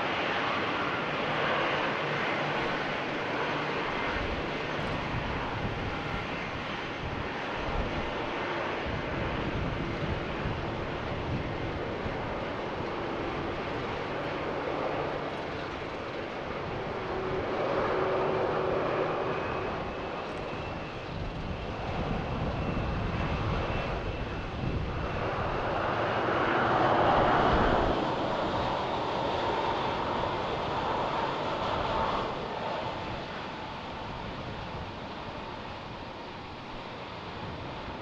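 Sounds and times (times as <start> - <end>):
jet engine rumble with high whine: 0.0 - 38.0.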